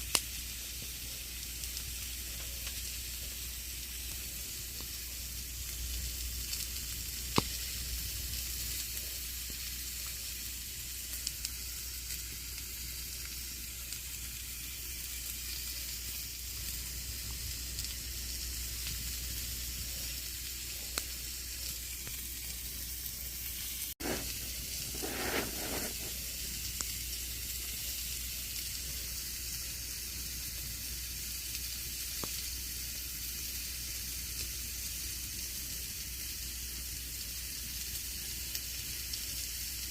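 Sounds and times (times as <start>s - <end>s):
campfire crackling: 0.0s - 39.9s
fire popping: 0.0s - 39.9s.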